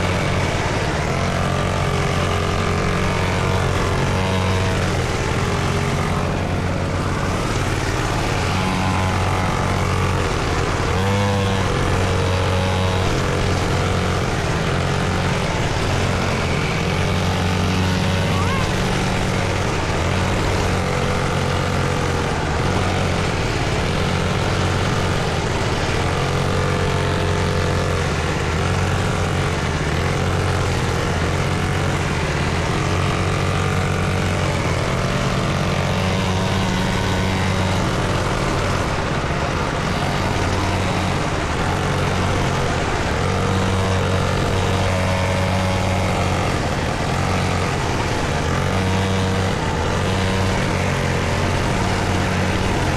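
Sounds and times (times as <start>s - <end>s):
small dirt bike engine: 0.0s - 52.9s.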